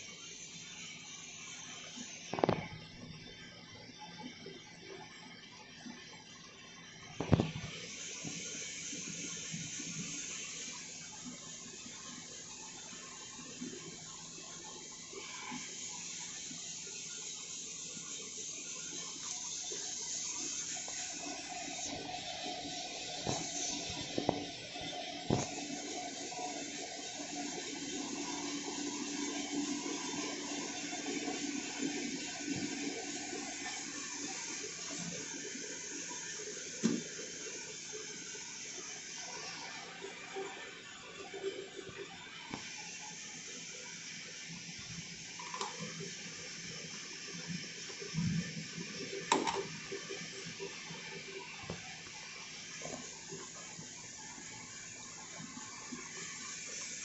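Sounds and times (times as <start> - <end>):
coffee roasting machine running: 0.0 - 57.0.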